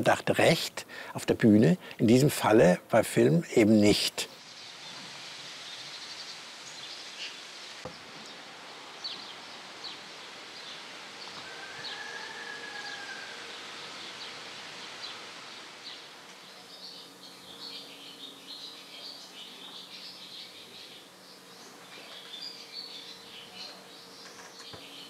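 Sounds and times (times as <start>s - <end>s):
steady soft hiss: 0.0s - 25.0s.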